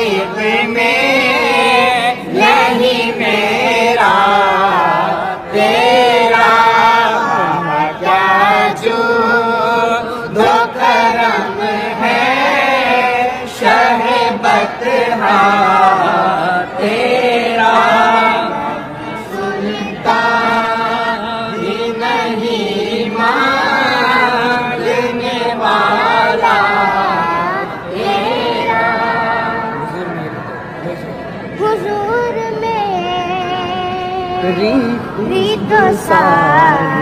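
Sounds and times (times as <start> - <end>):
boy singing devotional song: 0.0 - 30.0, 31.6 - 37.0.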